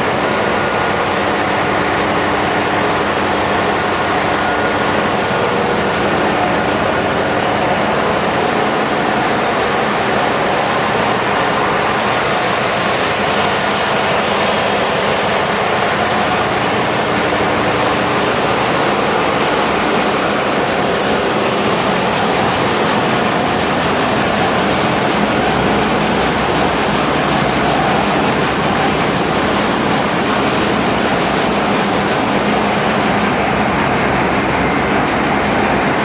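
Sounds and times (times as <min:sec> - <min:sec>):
engine-room machinery din: 0:00.0 - 0:36.0.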